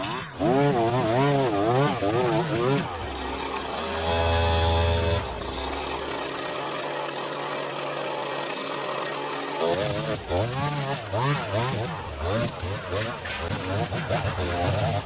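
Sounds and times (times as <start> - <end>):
small petrol engine running: 0.0 - 15.0.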